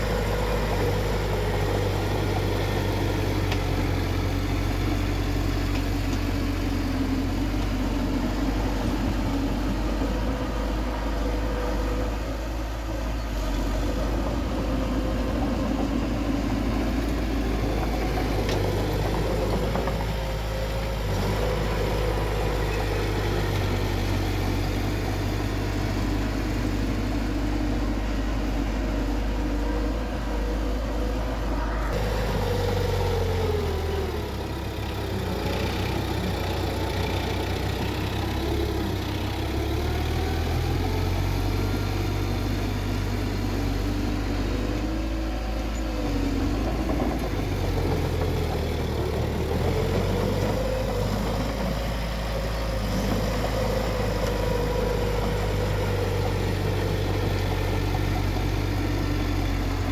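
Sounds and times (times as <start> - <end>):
bulldozer diesel engine revving: 0.0 - 59.9
clatter and rumble: 0.0 - 59.9.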